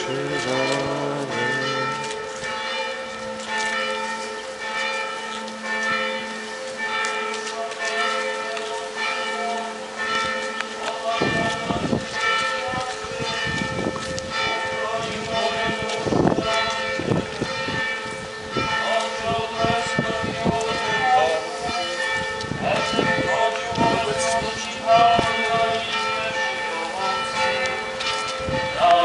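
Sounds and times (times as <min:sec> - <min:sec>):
church bells tolling: 0:00.0 - 0:29.0.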